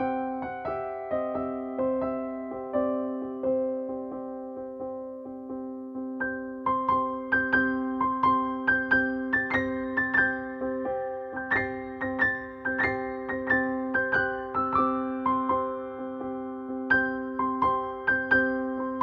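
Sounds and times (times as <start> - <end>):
piano keyboard music: 0.0 - 19.0.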